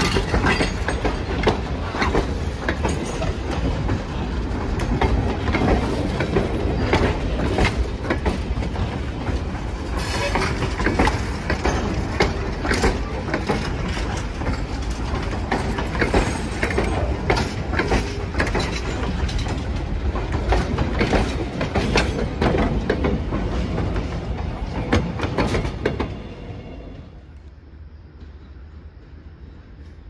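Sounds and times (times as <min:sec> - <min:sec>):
wheels clicking over rail joints: 0:00.0 - 0:26.2
train rumbling past: 0:00.0 - 0:30.0.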